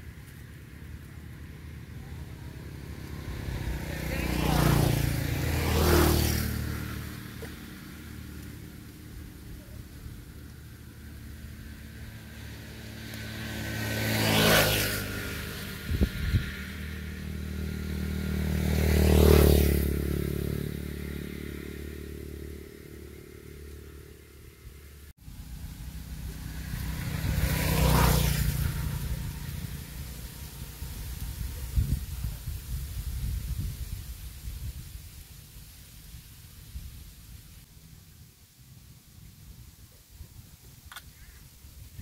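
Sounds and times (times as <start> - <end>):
road vehicles passing by: 0.0 - 42.0.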